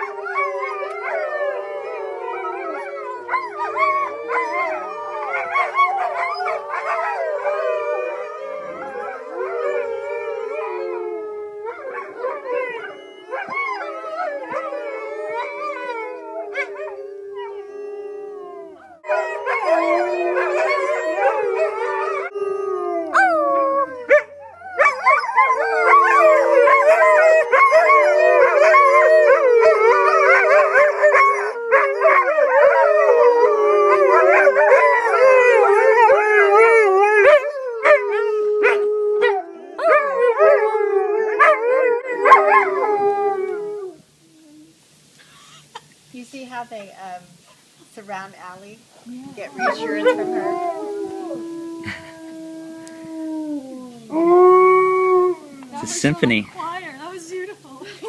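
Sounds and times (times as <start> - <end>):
wolves howling in chorus: 0.0 - 44.8, 49.0 - 57.5.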